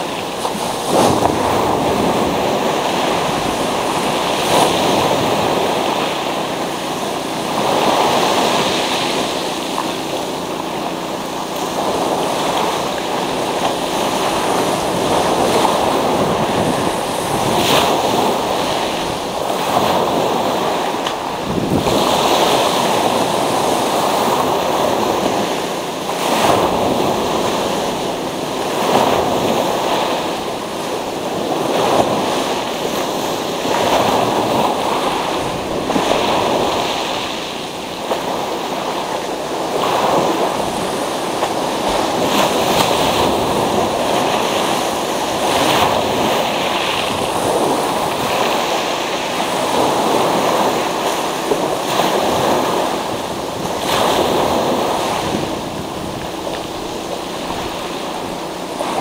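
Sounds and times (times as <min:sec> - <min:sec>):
surf on pebble beach: 0:00.0 - 0:59.0.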